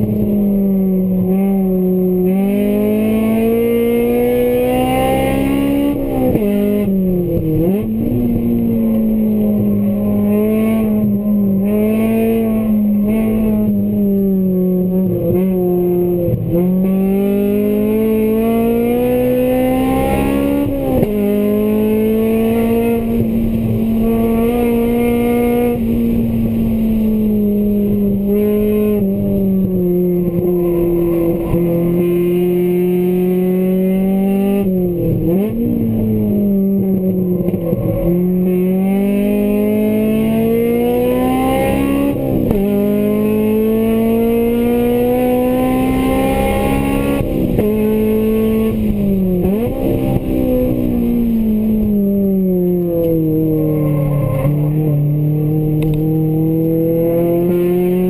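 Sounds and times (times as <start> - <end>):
car engine from inside cabin: 0.0 - 58.0.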